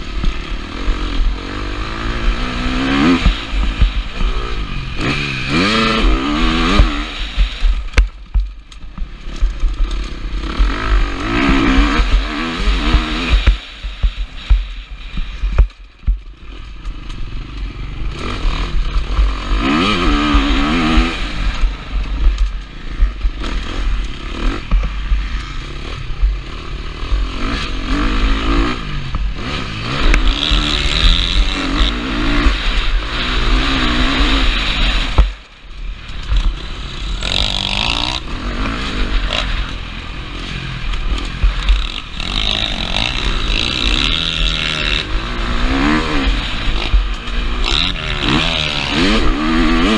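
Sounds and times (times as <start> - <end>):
motocross engine revving: 0.0 - 8.1, 8.9 - 49.9.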